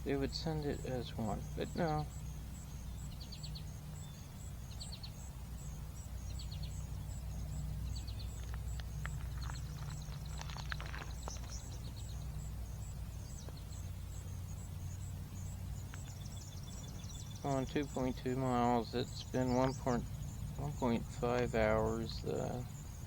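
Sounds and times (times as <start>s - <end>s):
bird trilling: 0.0s - 23.0s
insect chirping: 0.0s - 23.0s.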